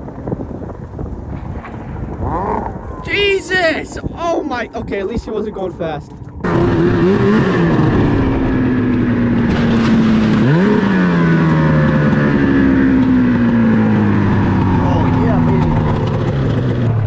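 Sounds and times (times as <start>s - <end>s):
snowmobile engine revving: 2.2s - 17.0s.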